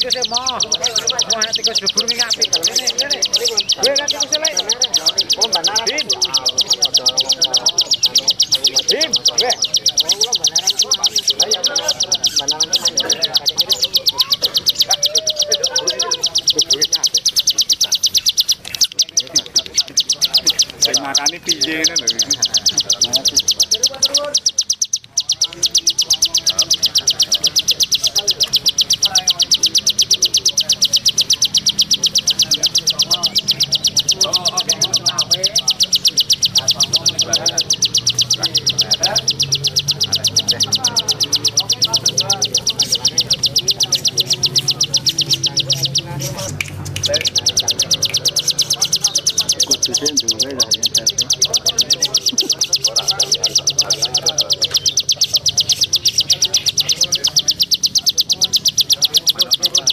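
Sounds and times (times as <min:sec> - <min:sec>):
faint bird chirps: 0:00.0 - 0:59.9
songbird fast trill: 0:00.0 - 0:59.9.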